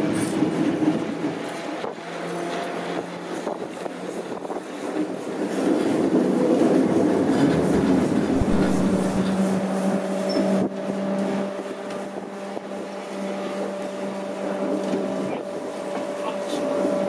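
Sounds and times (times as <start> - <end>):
snowplough train rushing past: 0.0 - 17.0
train running heard on board: 0.0 - 17.0.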